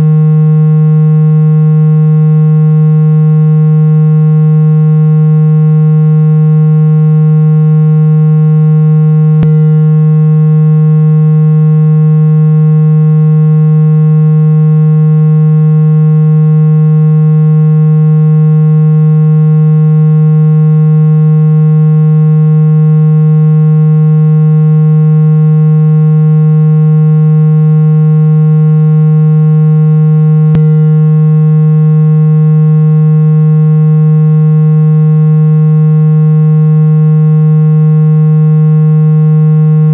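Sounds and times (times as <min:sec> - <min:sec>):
low synthesized drone: 0:00.0 - 0:39.9.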